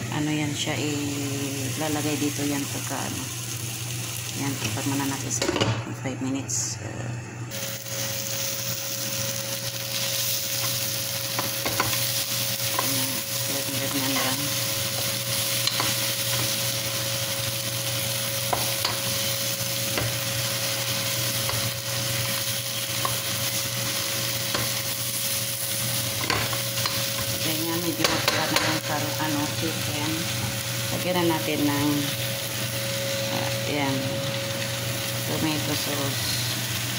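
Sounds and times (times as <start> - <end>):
steady hum: 0.0 - 36.9
chicken sizzling in hot oil: 1.2 - 5.4, 7.5 - 36.9.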